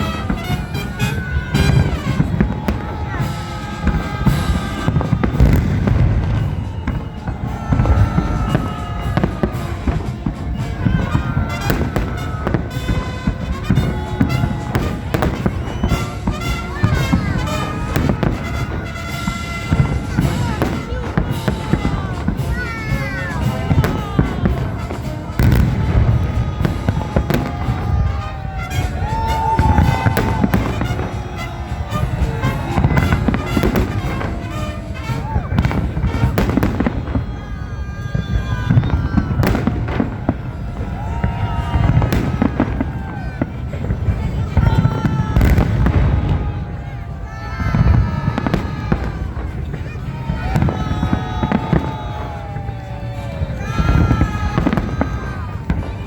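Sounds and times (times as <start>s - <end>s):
fireworks booming and crackling: 0.0s - 56.0s
music playing: 0.0s - 56.0s.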